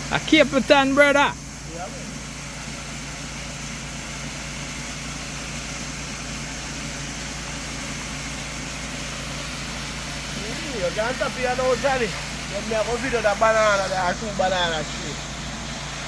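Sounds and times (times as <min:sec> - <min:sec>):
truck engine running: 0:00.0 - 0:16.0
water pumping hiss: 0:00.0 - 0:16.0.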